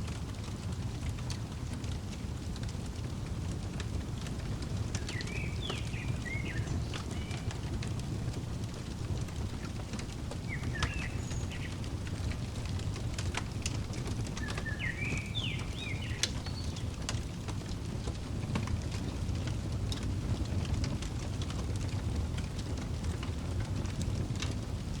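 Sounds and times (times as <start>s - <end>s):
fireplace crackling: 0.0s - 25.0s.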